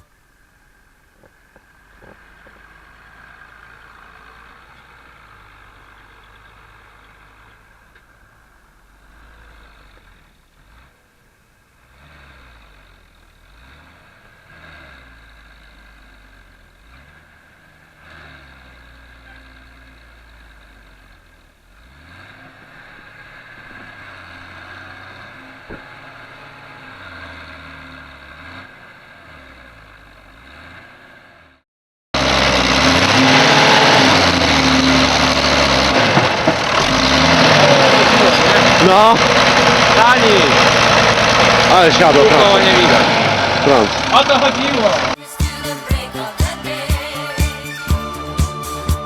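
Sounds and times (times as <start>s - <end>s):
tractor diesel engine revving: 0.0s - 31.6s, 32.2s - 49.0s.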